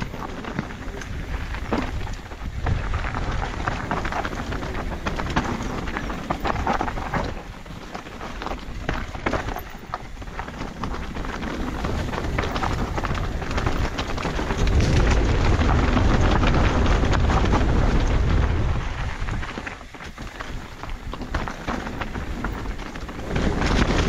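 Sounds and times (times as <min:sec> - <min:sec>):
bike rattling: 0:00.0 - 0:24.0
bike tyres on dirt and stones: 0:00.0 - 0:24.0
wind buffeting microphone: 0:00.0 - 0:24.0.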